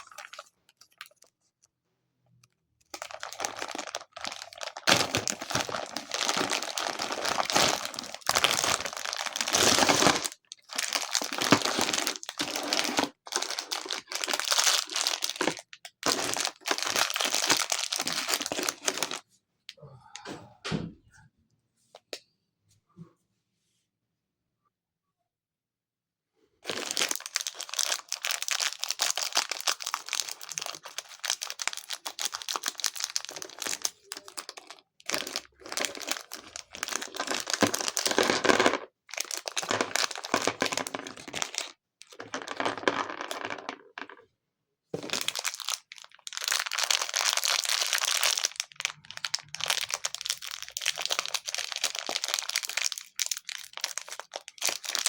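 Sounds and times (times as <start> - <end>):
packaging crinkling: 0.0 - 1.6, 2.8 - 19.2, 26.6 - 44.2, 45.0 - 55.0.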